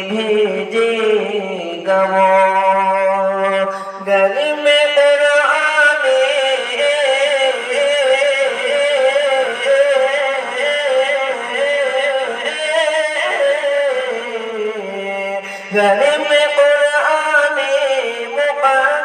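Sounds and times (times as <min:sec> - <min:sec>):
wordless sung vocal melody: 0:00.0 - 0:19.0.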